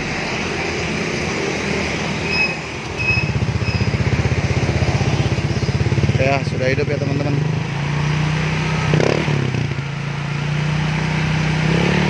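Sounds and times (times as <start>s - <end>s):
scooter engine starting and idling: 0.0s - 12.0s.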